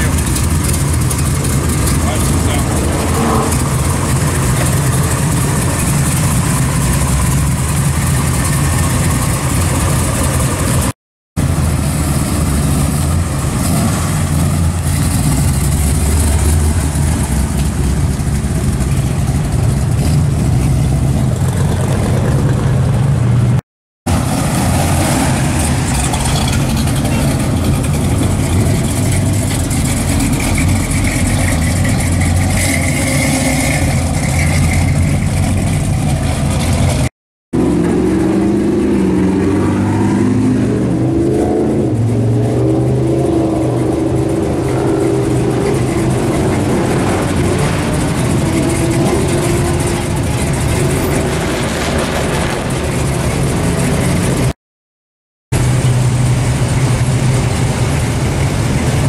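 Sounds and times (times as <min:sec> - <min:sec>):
muscle car engines idling and revving: 0:00.0 - 0:54.6, 0:55.5 - 0:59.0.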